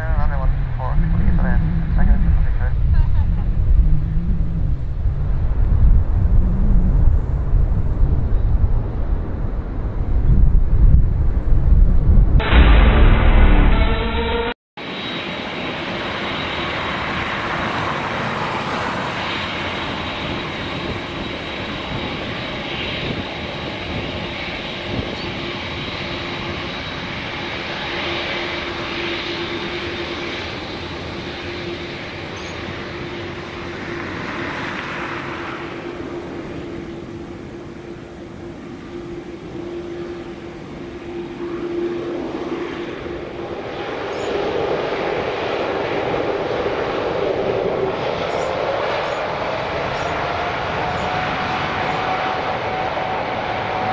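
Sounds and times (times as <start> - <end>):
airplane engines roaring: 0.0 - 53.9.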